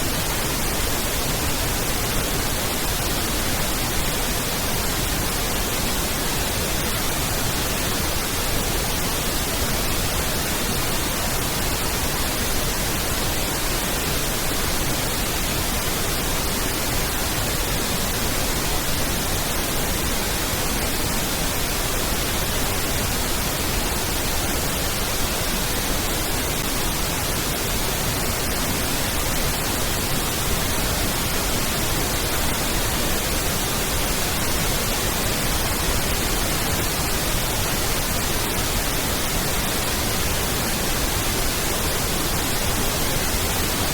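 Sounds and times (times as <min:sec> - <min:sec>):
pink noise hiss: 0:00.0 - 0:43.9.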